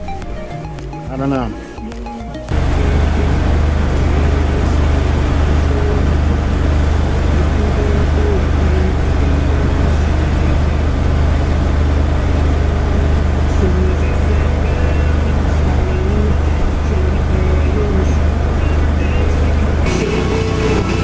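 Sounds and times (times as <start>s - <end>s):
boat engine droning: 2.5s - 21.0s.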